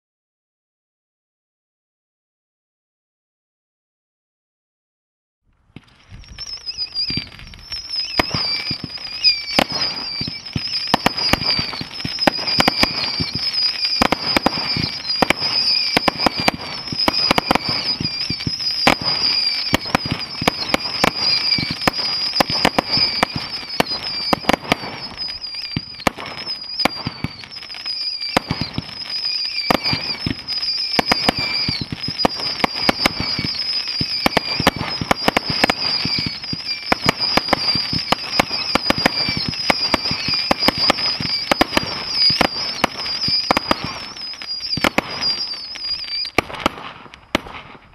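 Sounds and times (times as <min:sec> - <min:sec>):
firework cake firing: 0:05.8 - 0:47.9.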